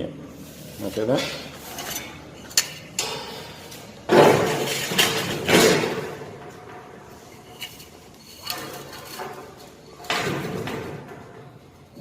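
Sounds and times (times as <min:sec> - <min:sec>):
hard objects scraping: 0:00.4 - 0:10.8.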